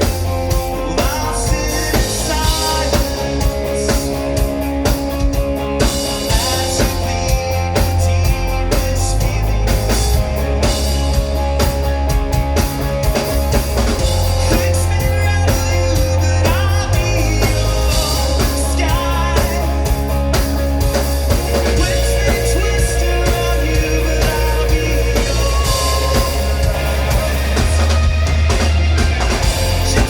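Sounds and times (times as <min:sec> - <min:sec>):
bass guitar: 0:00.0 - 0:30.0
drum kit: 0:00.0 - 0:30.0
electric guitars: 0:00.0 - 0:30.0.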